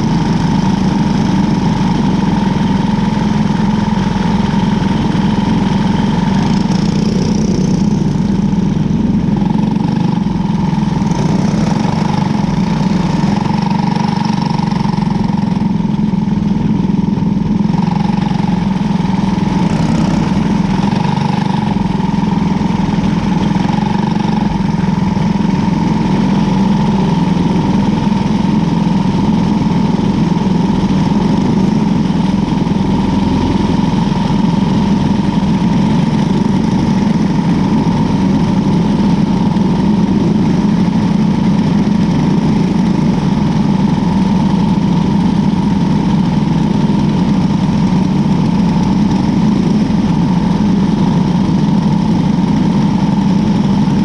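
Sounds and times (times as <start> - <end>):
small kart engine idling: 0.0 - 54.0.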